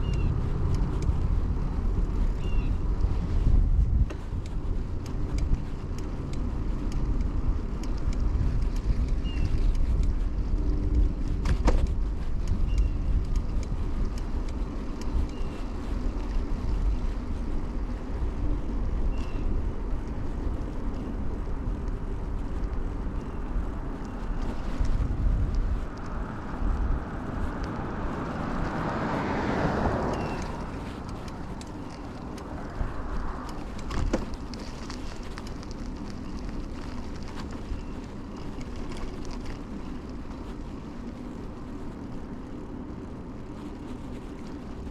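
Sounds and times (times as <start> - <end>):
bicycle road noise: 0.0 - 44.9
vehicle passing: 0.0 - 44.9
wind rumble on camera: 0.0 - 44.9.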